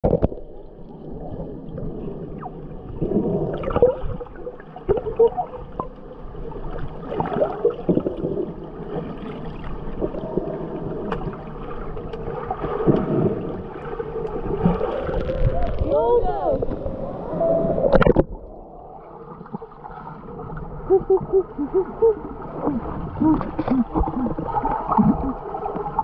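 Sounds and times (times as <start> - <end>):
bubbles gurgling: 0.0 - 6.0, 6.6 - 26.0
swimmers moving underwater: 1.4 - 26.0.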